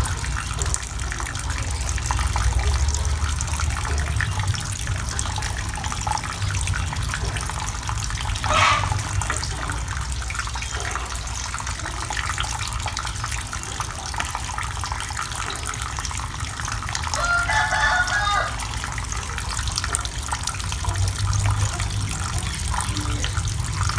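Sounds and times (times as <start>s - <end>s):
water running and splashing: 0.0s - 23.9s.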